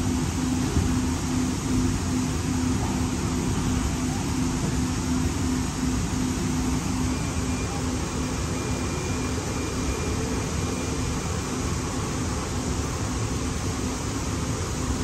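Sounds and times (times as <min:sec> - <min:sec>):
faint high whine: 0:00.0 - 0:15.0
pulsing low hum: 0:00.0 - 0:15.0
rail car rumbling through tunnel: 0:00.0 - 0:15.0.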